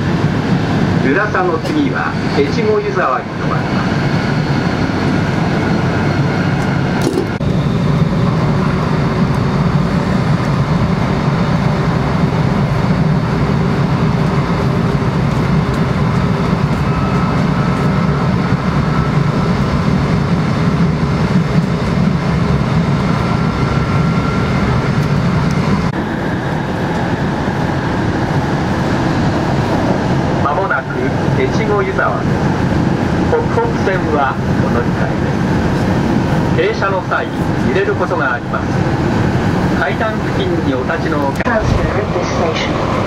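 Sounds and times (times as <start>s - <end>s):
train cabin rumble: 0.0s - 43.0s.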